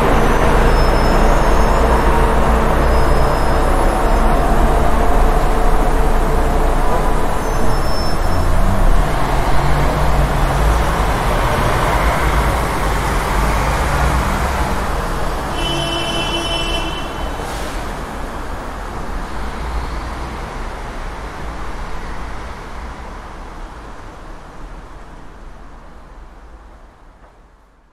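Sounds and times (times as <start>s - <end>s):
traffic rumble: 0.0s - 27.8s.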